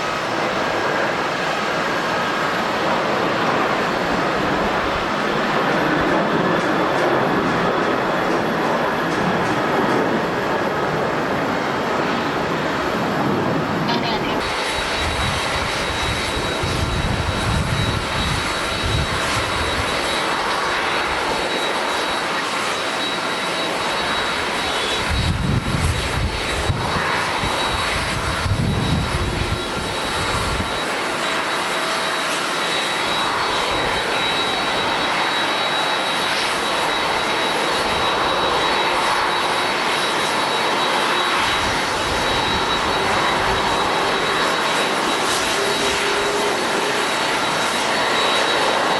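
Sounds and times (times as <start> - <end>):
high jet engine whine: 0.0 - 48.9
jet engines roaring: 0.0 - 48.9.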